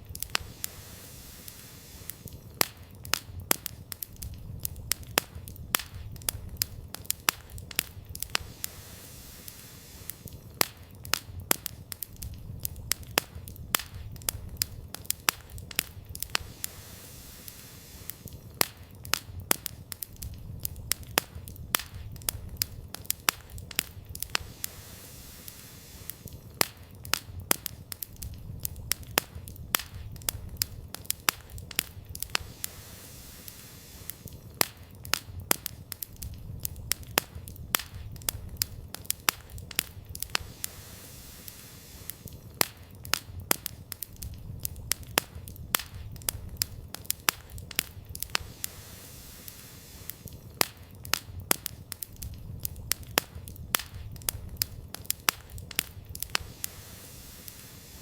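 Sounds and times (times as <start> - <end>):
firewood crackling and popping: 0.0 - 58.0.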